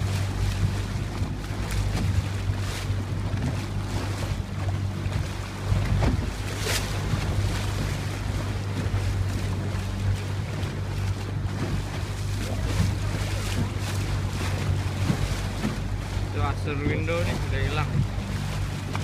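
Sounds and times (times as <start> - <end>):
boat engine drone: 0.0 - 19.0
water splashing against hull: 0.0 - 19.0
wind buffeting microphone: 0.0 - 19.0.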